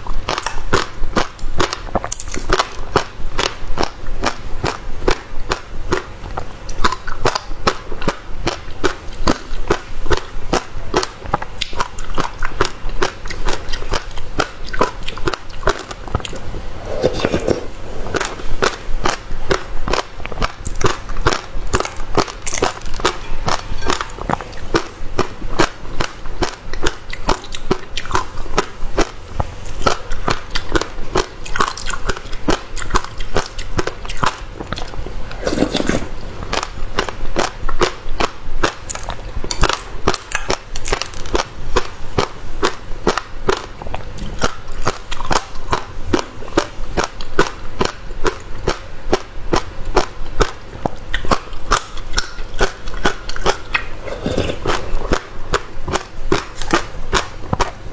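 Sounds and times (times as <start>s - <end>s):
chewing with seeds cracking: 0.0s - 57.9s.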